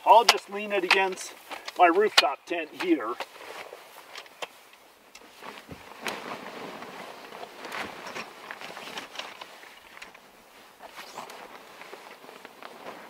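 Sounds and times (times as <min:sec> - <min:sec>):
tent fabric rustling: 0:00.0 - 0:13.0.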